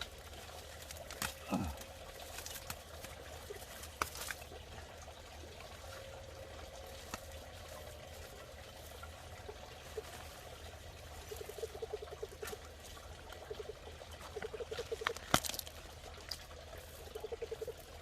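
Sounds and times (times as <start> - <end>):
pond water trickling and bubbling: 0.0 - 18.0.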